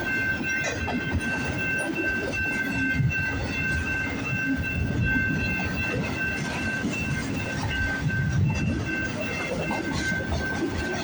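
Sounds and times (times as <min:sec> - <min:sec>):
freight train rumbling past: 0:00.0 - 0:11.0
wheels clacking over rail joints: 0:00.0 - 0:11.0.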